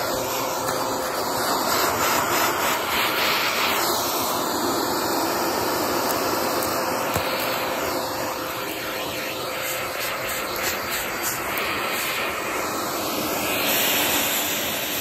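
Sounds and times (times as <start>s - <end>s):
vacuum cleaner on carpet: 0.0s - 15.0s.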